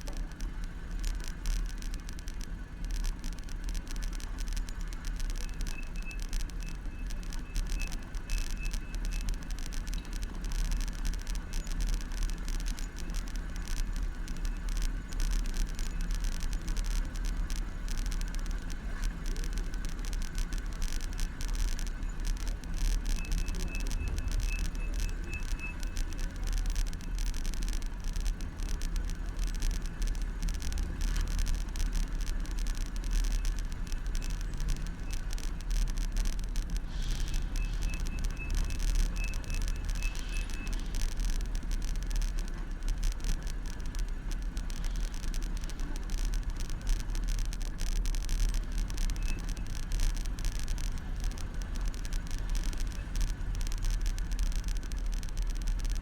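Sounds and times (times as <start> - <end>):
bicycle road vibration rumble: 0.0 - 56.0
city traffic: 0.0 - 56.0.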